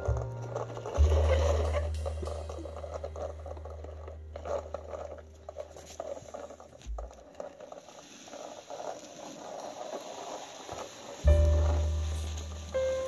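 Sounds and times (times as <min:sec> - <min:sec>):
toy car wheels rolling on floor: 0:00.0 - 0:13.0.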